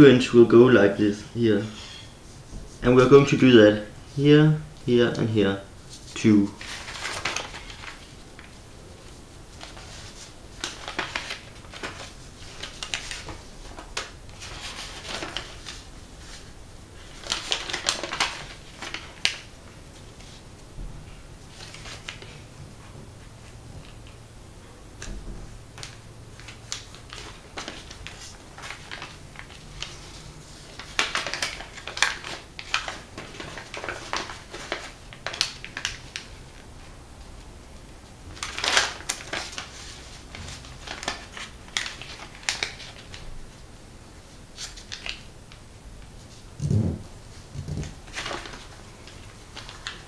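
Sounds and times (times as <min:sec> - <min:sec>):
paper rustling and crinkling: 0:05.1 - 0:24.2, 0:25.8 - 0:36.7, 0:38.3 - 0:45.3, 0:46.0 - 0:50.0.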